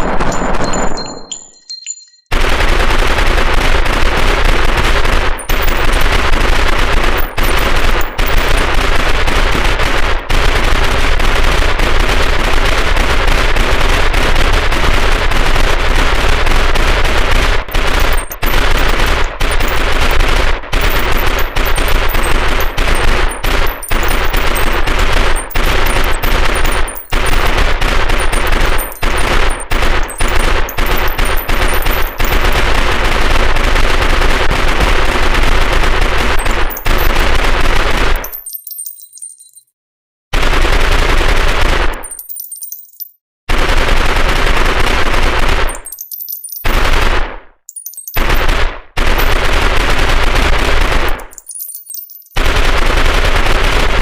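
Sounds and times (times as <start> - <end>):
submachine gun firing bursts: 0.0 - 0.8, 2.3 - 38.4, 40.4 - 42.3, 43.5 - 46.0, 46.7 - 47.4, 48.1 - 51.4, 52.4 - 54.0.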